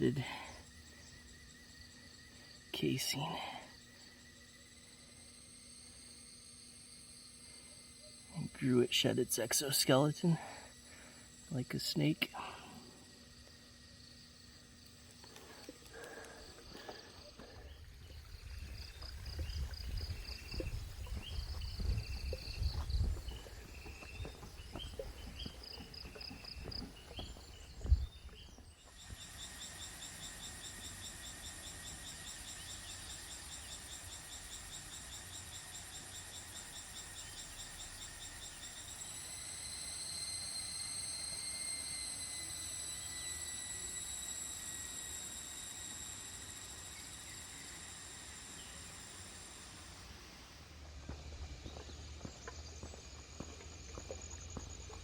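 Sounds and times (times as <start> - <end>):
insects trilling and buzzing: 0.0 - 55.0
pulsed high insect drone: 0.0 - 55.0.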